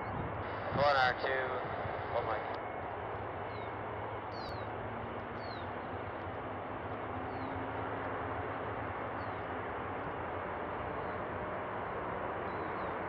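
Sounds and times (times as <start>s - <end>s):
distant jet engines rushing: 0.0s - 13.0s.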